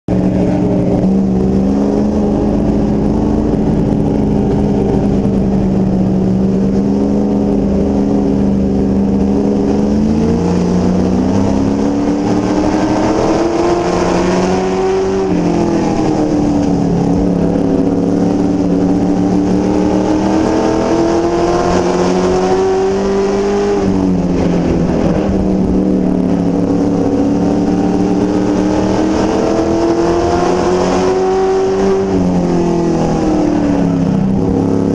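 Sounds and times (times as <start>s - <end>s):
race truck engine revving: 0.1s - 34.9s.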